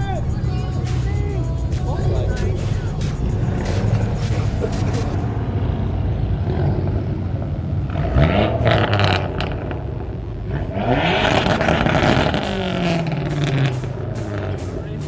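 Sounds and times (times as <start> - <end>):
car accelerating: 0.0 - 15.0
car engines rumbling: 0.0 - 15.0.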